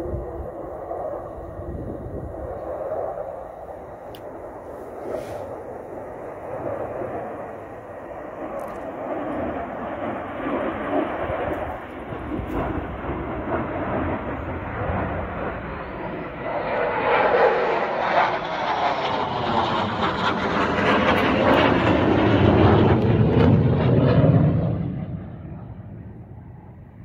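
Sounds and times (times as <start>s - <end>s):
fighter jet engine flying overhead: 0.0s - 27.0s.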